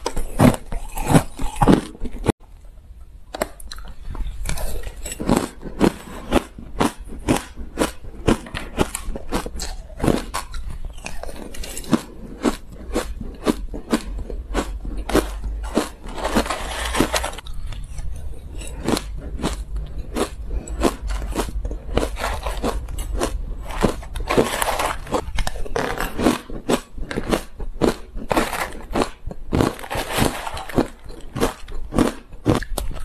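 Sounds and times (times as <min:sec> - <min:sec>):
crushed ice crunching: 0:04.6 - 0:17.5, 0:18.6 - 0:32.7
spoon scraping ice in plastic tub: 0:04.6 - 0:32.0.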